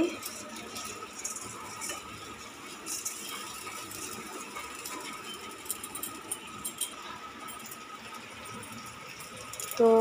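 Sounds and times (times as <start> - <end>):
rice grains rustling on metal: 0.0 - 10.0.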